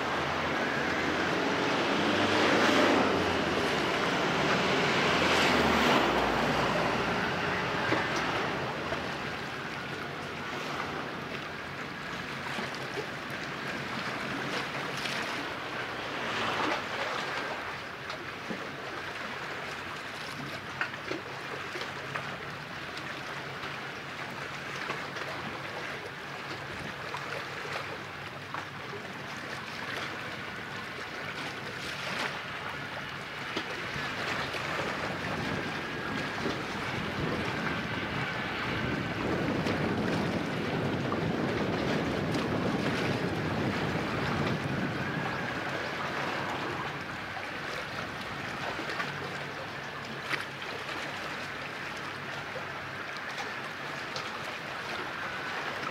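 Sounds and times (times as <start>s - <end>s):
small sea waves: 0.0s - 55.9s
wind: 0.0s - 55.9s.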